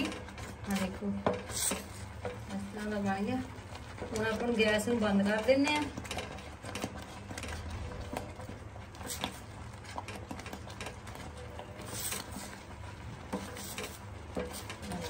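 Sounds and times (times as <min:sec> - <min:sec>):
ladle scraping a pan: 0:00.0 - 0:15.0.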